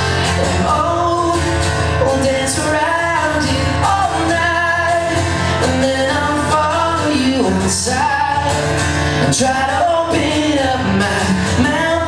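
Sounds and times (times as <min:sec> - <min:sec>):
man singing: 0:00.0 - 0:12.0
strummed acoustic guitar: 0:00.0 - 0:12.0.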